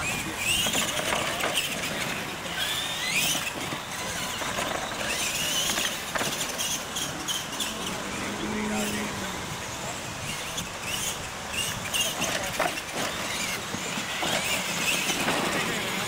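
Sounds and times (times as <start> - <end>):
electric toy truck motors whining: 0.0 - 16.0.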